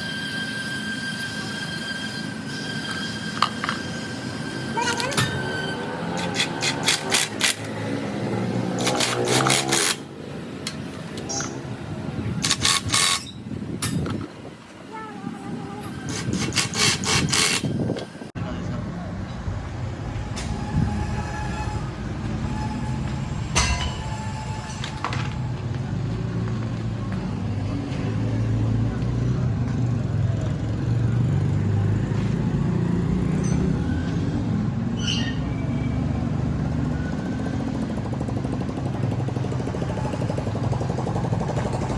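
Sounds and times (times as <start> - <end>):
engine rumbling: 3.1 - 41.9.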